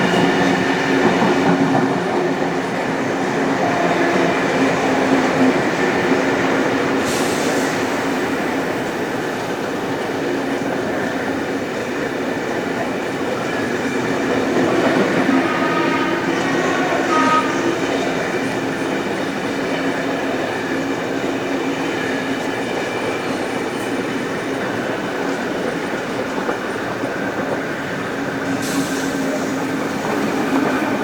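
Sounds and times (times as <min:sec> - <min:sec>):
train rumbling and rattling on rails: 0:00.0 - 0:31.0.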